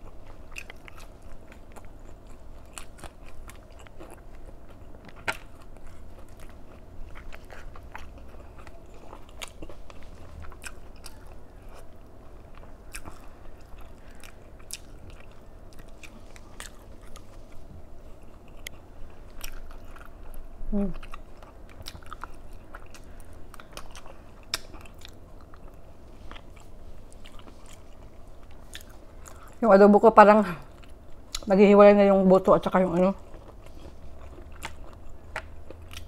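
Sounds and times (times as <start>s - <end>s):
person chewing and biting: 0.0s - 29.6s, 33.2s - 36.0s.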